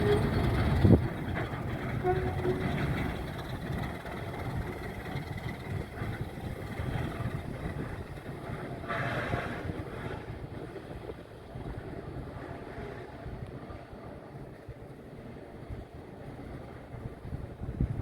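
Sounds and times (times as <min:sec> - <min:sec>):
diesel locomotive rumbling: 0:00.0 - 0:18.0
wind buffeting microphone: 0:00.0 - 0:18.0.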